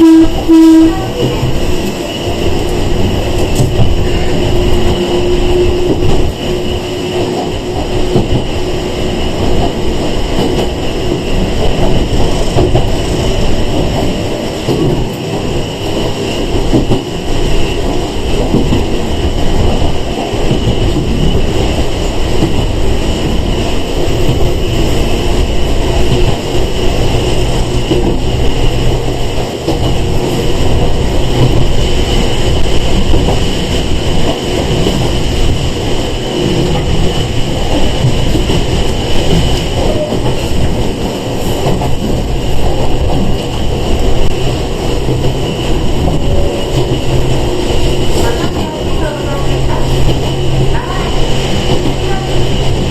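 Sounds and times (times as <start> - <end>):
train wheels and motors rumbling: 0.0 - 52.9.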